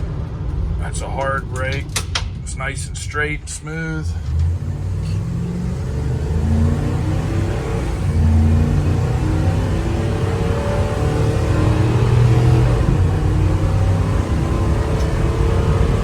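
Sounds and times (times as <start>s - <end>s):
truck engine pulling hard: 0.0s - 16.0s.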